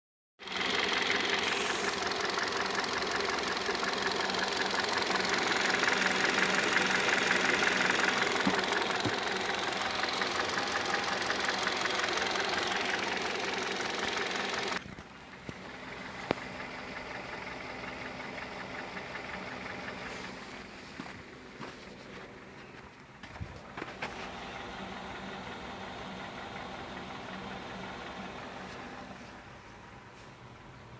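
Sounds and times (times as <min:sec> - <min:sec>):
car engine idling with knocking: 0:00.4 - 0:30.3.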